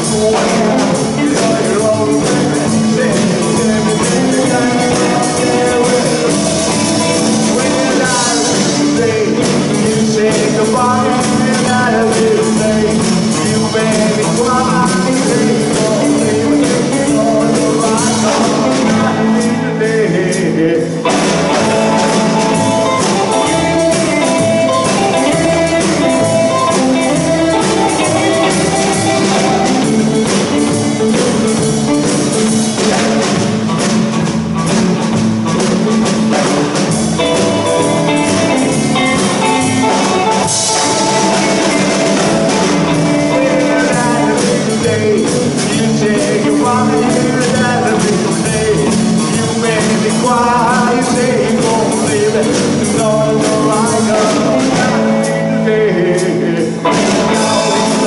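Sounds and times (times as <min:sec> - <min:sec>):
man singing: 0:00.0 - 0:33.6, 0:35.0 - 0:58.0
drum kit: 0:00.0 - 0:58.0
electric guitar: 0:00.0 - 0:58.0
upright double bass: 0:00.0 - 0:58.0.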